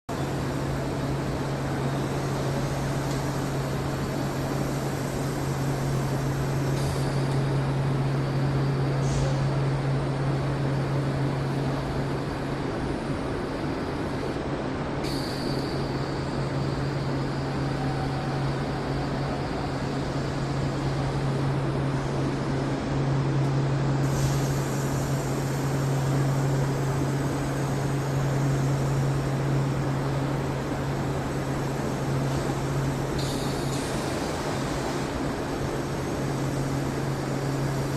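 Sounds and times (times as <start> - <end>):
low machine hum: 0.0 - 37.9
steady hiss: 0.1 - 37.9.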